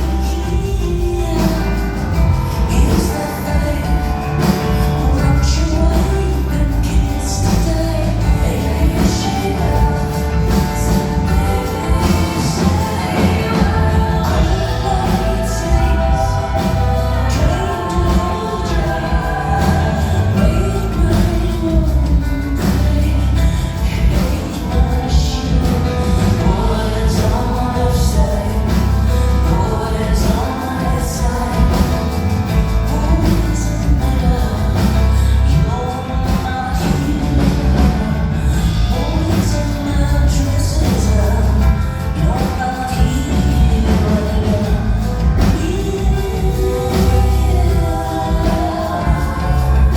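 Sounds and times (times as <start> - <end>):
heavy steady bass: 0.0 - 49.9
keyboards: 0.0 - 49.9
woman singing: 0.0 - 49.9.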